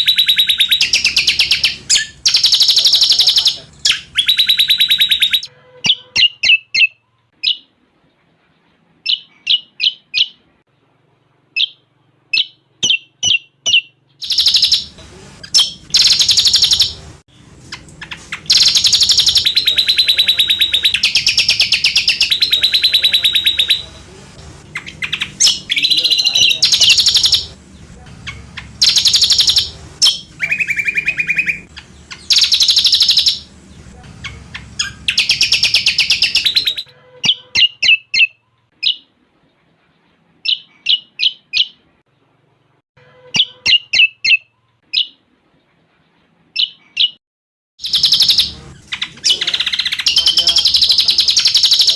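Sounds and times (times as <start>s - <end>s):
bird chirping and trilling: 0.0s - 7.7s, 9.0s - 10.5s, 11.6s - 24.0s, 24.7s - 27.6s, 28.2s - 39.1s, 40.4s - 41.8s, 43.2s - 45.2s, 46.6s - 47.2s, 47.8s - 51.9s.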